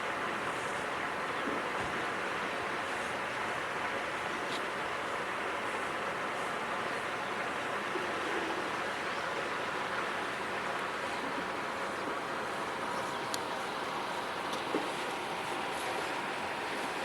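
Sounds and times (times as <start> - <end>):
outdoor background hum: 0.0 - 17.0.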